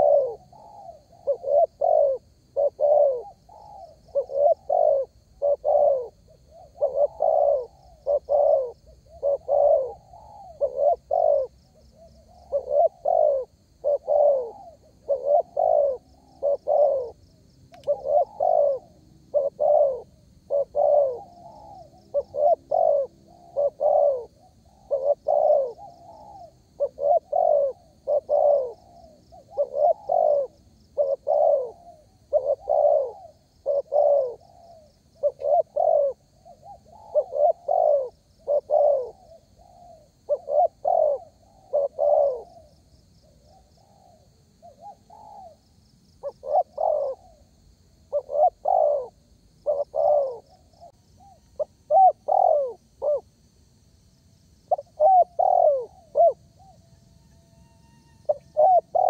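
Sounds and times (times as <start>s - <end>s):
dove cooing: 0.0s - 45.6s, 46.2s - 53.3s, 54.7s - 59.0s.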